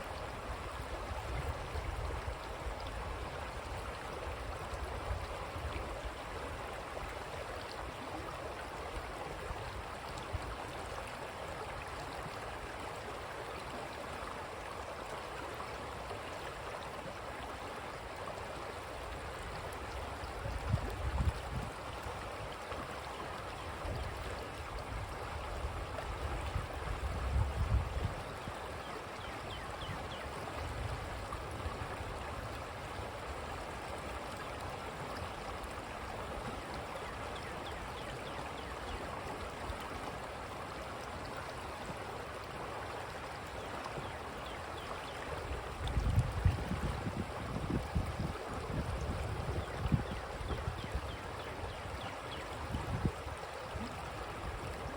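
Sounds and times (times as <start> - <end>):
creek water flowing: 0.0 - 54.9.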